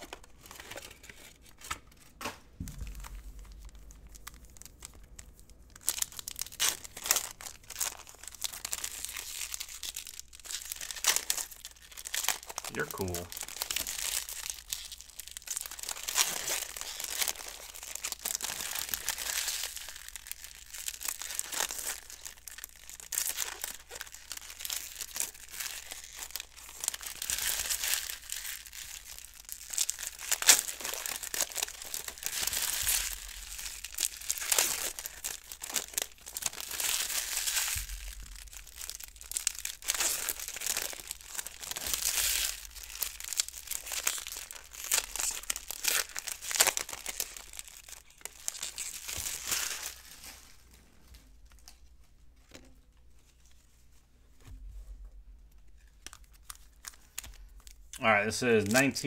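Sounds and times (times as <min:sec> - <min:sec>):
plastic wrappers crinkling and tearing: 0:00.0 - 0:59.0.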